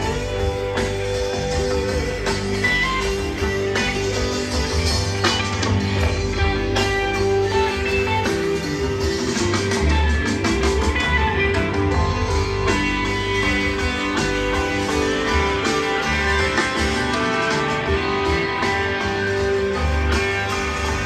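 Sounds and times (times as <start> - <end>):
electric guitar: 0.0 - 21.0
live rock band playing: 0.0 - 21.0.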